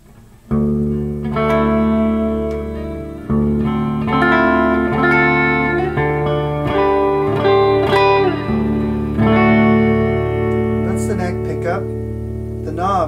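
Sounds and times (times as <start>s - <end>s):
electric guitar chords and notes: 0.0s - 13.0s.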